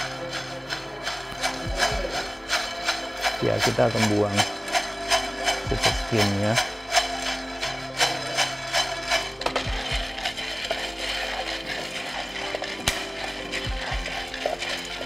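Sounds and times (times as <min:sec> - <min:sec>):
background music with held notes: 0:00.0 - 0:15.0
spatula stirring rattling coffee beans: 0:00.0 - 0:15.0
coffee beans popping: 0:00.7 - 0:15.0.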